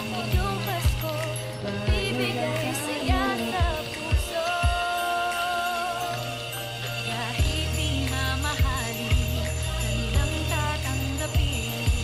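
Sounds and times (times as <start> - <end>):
festive holiday song with sleigh bells: 0.0 - 12.0.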